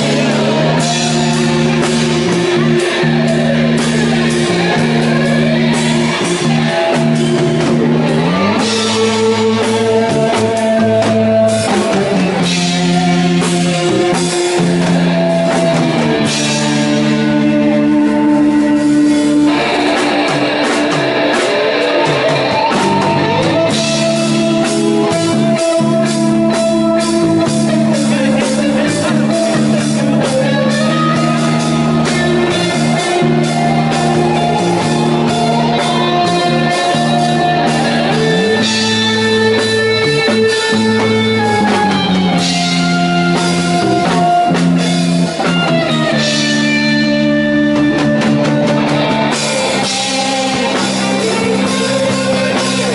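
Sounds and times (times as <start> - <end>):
drum kit beat: 0.0 - 52.9
electric guitars: 0.0 - 52.9.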